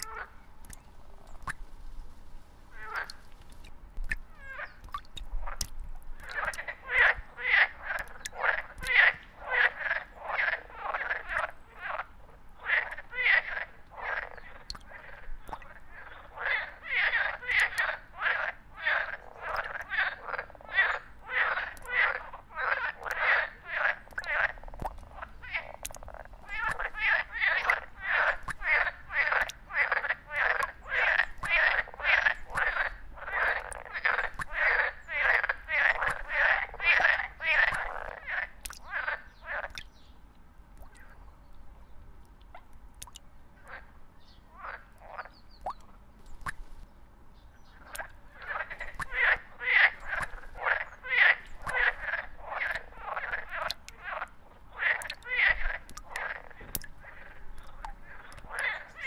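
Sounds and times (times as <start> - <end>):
frog croaking: 0.0 - 0.8, 2.7 - 3.2, 4.1 - 39.9, 43.0 - 43.9, 44.5 - 45.8, 47.8 - 59.0.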